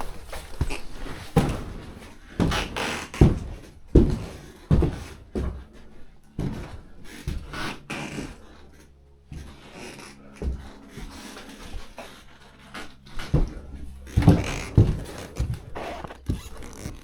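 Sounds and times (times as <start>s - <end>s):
heavy footsteps: 0.0s - 17.0s.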